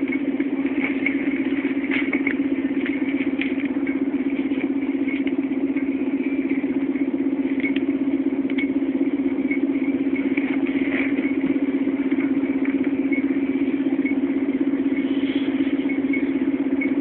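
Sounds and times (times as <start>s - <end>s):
body clicks and rattles: 0.0s - 17.0s
bus engine idling: 0.0s - 17.0s.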